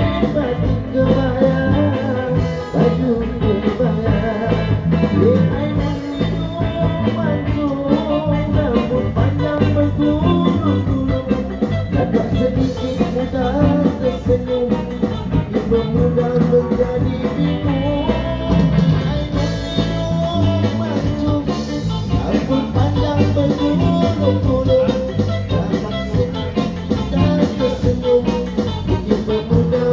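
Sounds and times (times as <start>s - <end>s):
electric bass guitar: 0.0s - 29.9s.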